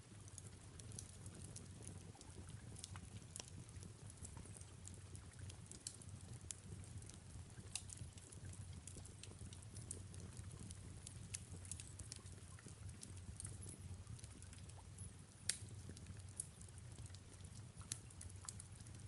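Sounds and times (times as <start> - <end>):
faint rain hiss: 0.0 - 19.0
fire crackling and popping: 0.1 - 19.0.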